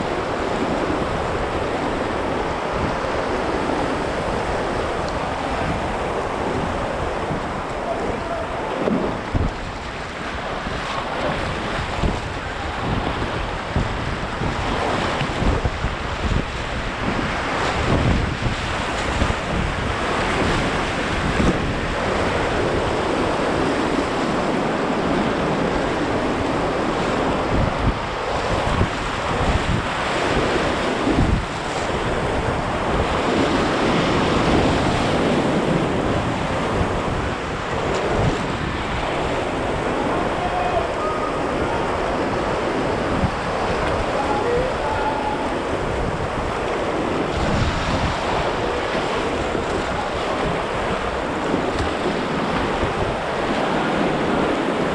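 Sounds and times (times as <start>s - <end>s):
river rapid rushing: 0.0s - 54.9s
wind buffeting microphone: 0.0s - 54.9s.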